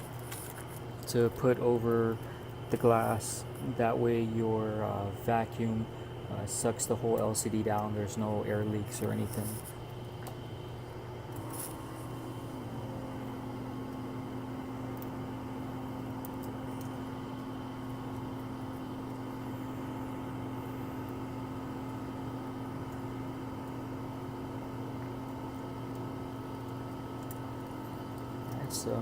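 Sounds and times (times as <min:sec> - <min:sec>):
vacuum pump humming: 0:00.0 - 0:29.0.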